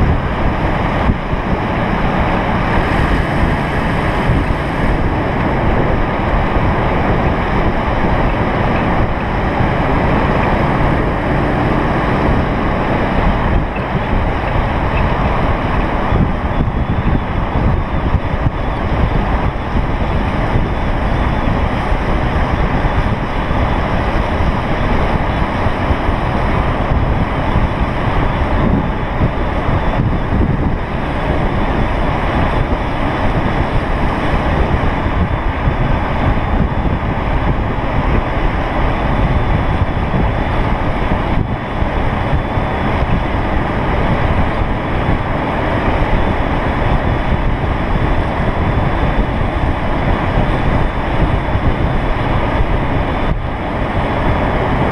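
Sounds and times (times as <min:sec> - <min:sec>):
skateboard wheels rolling on asphalt: 0:00.0 - 0:54.9
wind rushing over microphone: 0:00.0 - 0:54.9.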